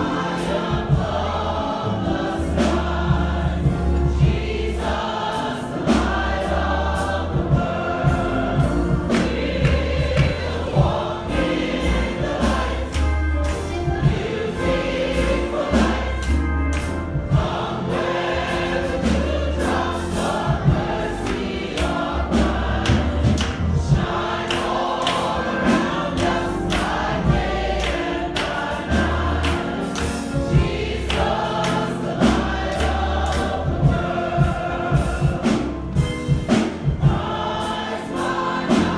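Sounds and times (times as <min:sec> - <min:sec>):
congregation singing: 0:00.0 - 0:38.9
steady beat of sharp strokes: 0:00.0 - 0:38.9.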